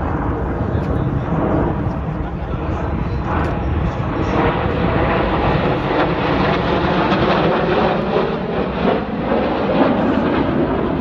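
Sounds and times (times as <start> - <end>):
jet engine rumble: 0.0 - 11.0.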